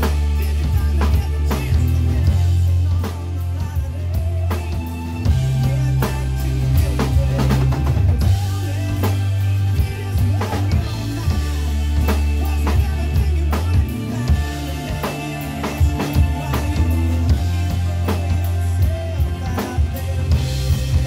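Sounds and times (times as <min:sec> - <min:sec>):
acoustic drum kit playing: 0:00.0 - 0:21.0
recorded pop-rock song: 0:00.0 - 0:21.0.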